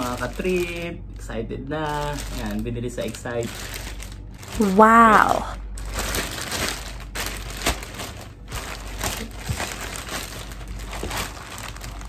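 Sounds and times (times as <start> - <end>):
plastic bag crinkling: 0.0 - 0.9, 1.8 - 12.0.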